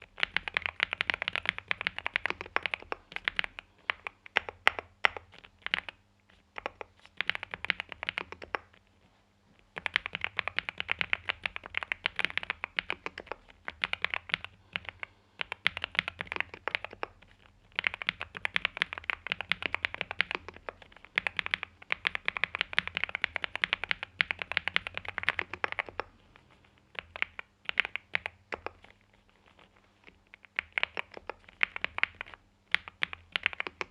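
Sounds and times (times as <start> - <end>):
mechanical keyboard typing: 0.0 - 6.0, 6.6 - 8.8, 9.7 - 26.1, 26.9 - 28.8, 30.3 - 33.9.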